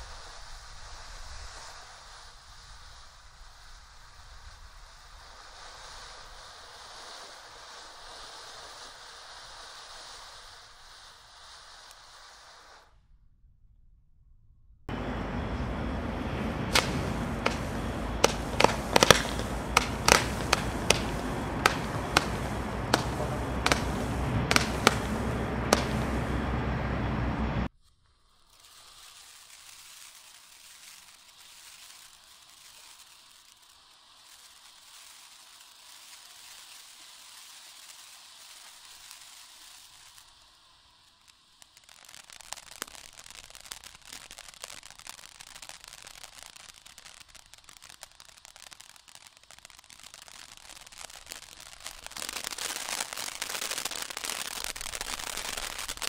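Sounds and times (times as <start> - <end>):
hiss of spraying sparks: 0.0 - 12.9, 16.7 - 26.4, 27.7 - 56.0
light crackling: 0.0 - 12.9, 14.9 - 56.0
firework cracks: 0.0 - 13.0, 14.9 - 56.0
firework fountain rushing spray: 0.0 - 13.0, 14.9 - 56.0.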